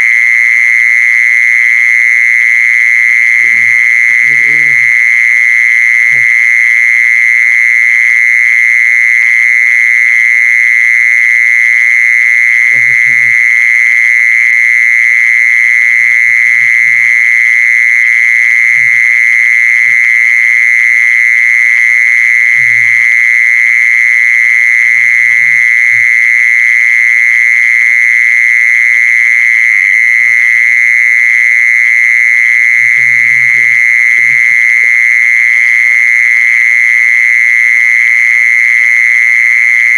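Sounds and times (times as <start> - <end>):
insect high-pitched trill: 0.0 - 8.2, 11.8 - 39.9.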